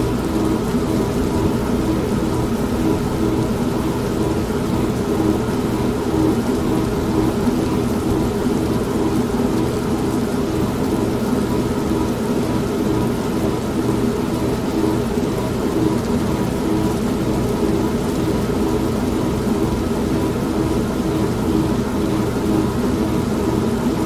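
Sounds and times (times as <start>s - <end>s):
rain: 0.0s - 24.0s
washing machine motor hum: 0.0s - 24.0s.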